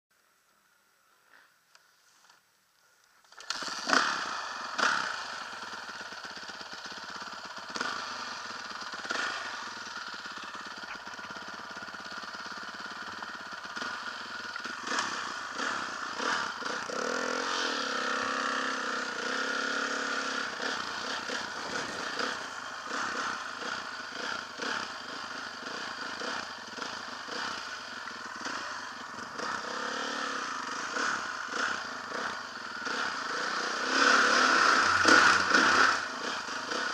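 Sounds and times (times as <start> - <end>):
dirt bike engine revving: 3.3 - 36.9.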